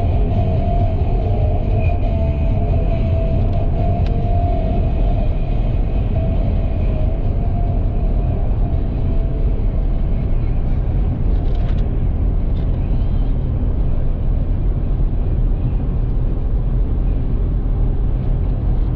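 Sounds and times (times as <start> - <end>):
road and engine rumble: 0.0 - 18.9.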